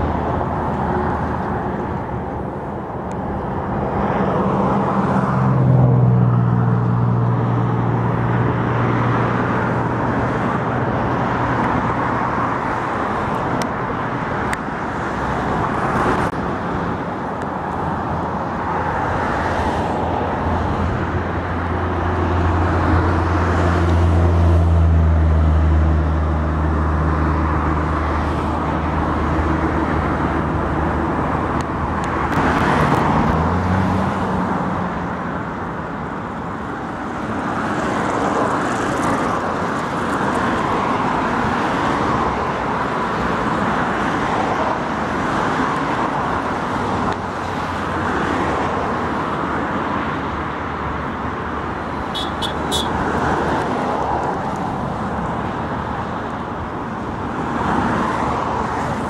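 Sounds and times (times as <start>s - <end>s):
heavy vehicle engine hum: 0.0s - 59.0s
road traffic passing: 0.0s - 59.0s.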